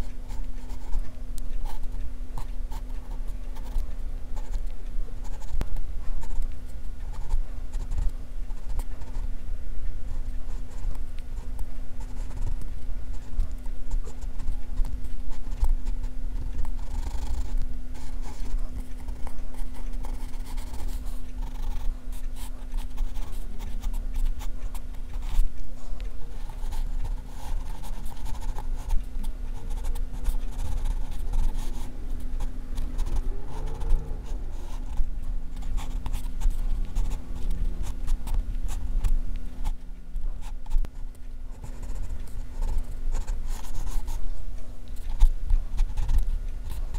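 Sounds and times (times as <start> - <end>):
pencil scratching on paper: 0.0 - 5.6, 10.1 - 44.2
low hum: 0.0 - 46.9.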